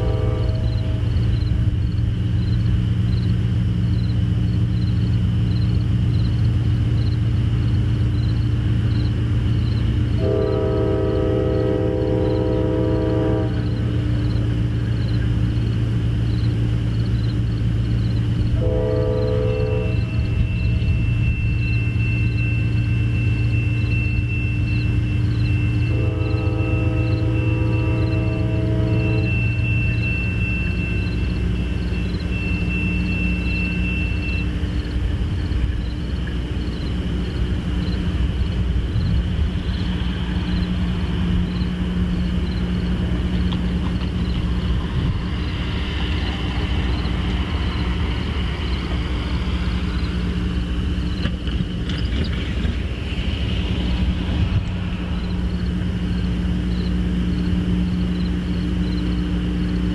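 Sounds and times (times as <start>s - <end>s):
locomotive engines rumbling: 0.0s - 59.9s.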